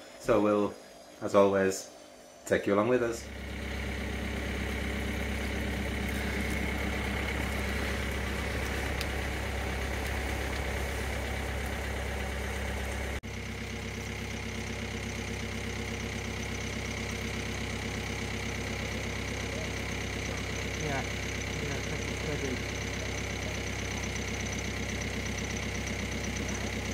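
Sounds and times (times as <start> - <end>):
car engine idling: 3.1 - 26.9.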